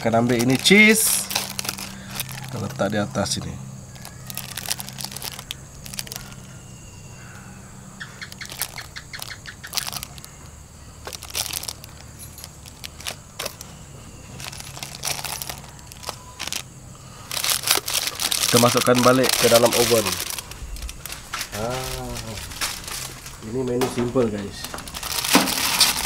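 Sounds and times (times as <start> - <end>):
aluminium foil rustling: 0.0 - 6.6, 8.2 - 26.0.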